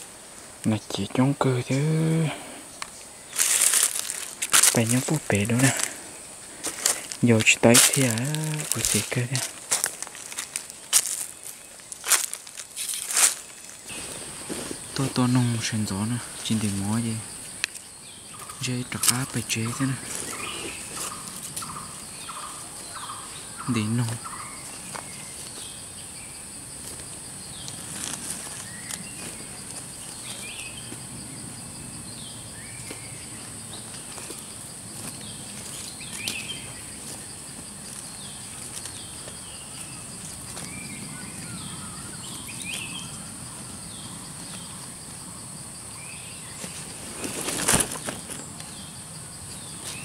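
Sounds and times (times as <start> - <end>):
high-pitched insect drone: 1.1 - 50.0.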